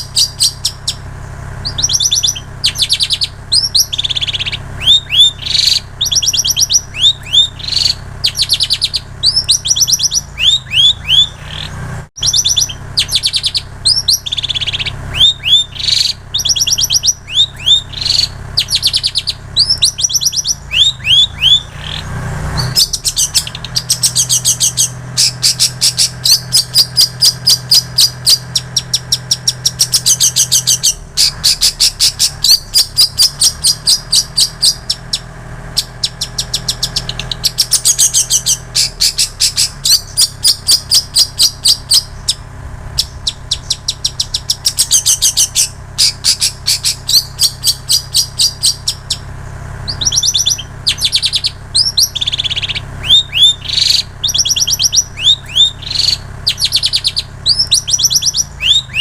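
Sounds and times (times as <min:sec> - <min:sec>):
bird singing sharp high chirps: 0:00.0 - 0:59.0.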